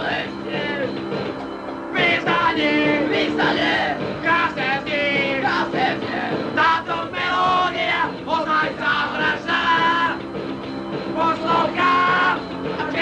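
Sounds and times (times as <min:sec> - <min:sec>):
male voices singing and chanting: 0:00.0 - 0:01.0, 0:01.9 - 0:10.2, 0:11.2 - 0:13.0
punk band playing: 0:00.0 - 0:13.0.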